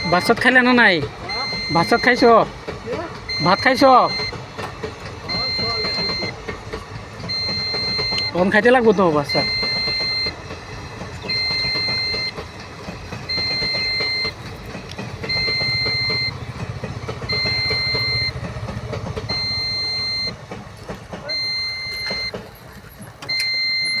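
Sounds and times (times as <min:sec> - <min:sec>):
level crossing alarm beeping: 0:00.0 - 0:24.0.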